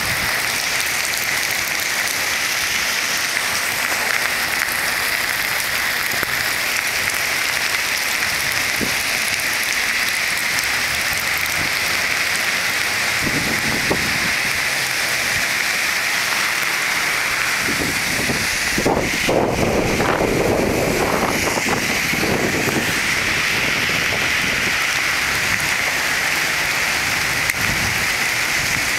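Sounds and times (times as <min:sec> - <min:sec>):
heavy rain pattering: 0:00.0 - 0:28.9.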